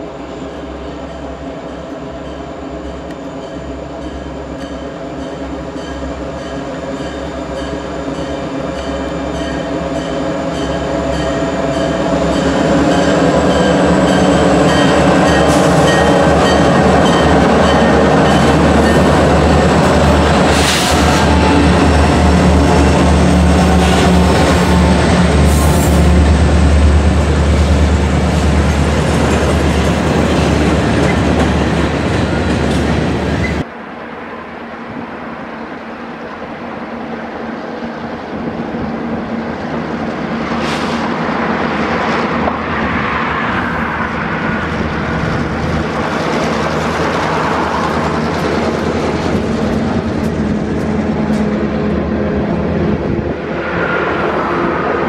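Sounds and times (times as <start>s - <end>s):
diesel locomotive rumble: 0.0s - 33.7s, 37.4s - 55.0s.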